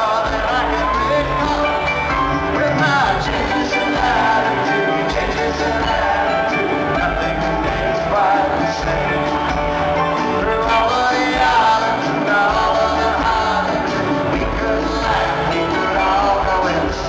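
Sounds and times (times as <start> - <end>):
full band playing: 0.0 - 17.0
person singing: 0.0 - 17.0.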